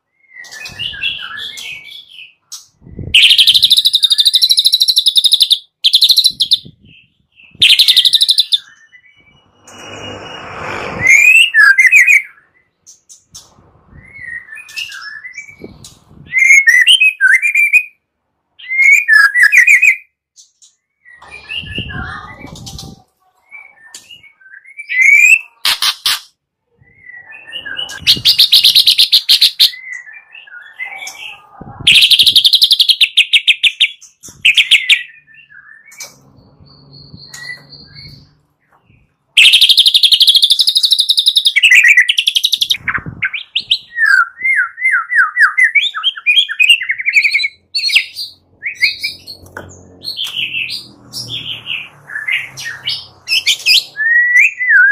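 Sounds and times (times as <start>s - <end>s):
bird whistling song: 0.0s - 10.2s, 11.0s - 13.0s, 13.9s - 18.0s, 18.6s - 26.2s, 26.8s - 38.3s, 39.4s - 49.4s, 50.0s - 54.9s.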